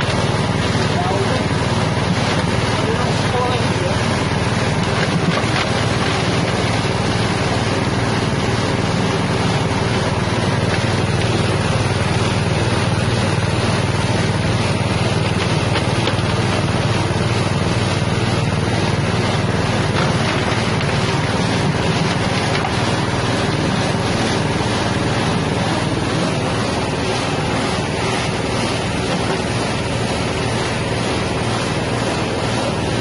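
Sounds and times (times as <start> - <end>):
grinding machine motor running: 0.0 - 33.0.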